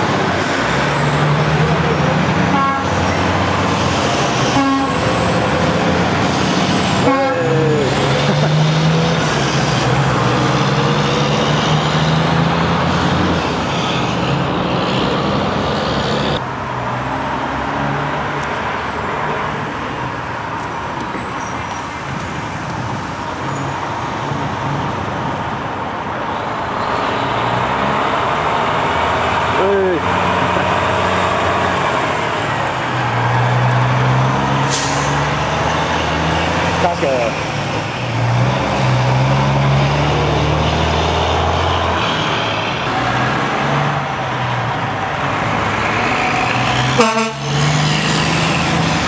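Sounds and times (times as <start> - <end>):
diesel truck engines: 0.0 - 49.0.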